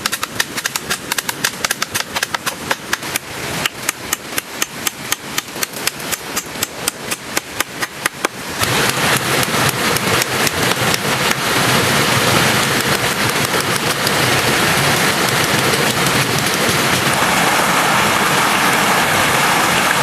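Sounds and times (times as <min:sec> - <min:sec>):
heavy rain downpour hiss: 0:00.0 - 0:20.0.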